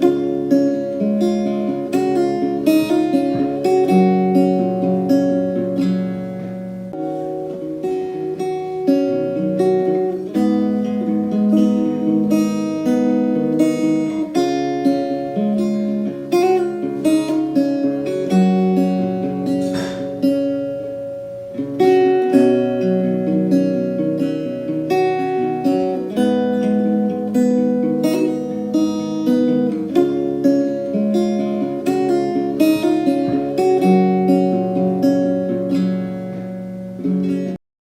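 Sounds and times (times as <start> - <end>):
acoustic guitar music: 0.0 - 37.6.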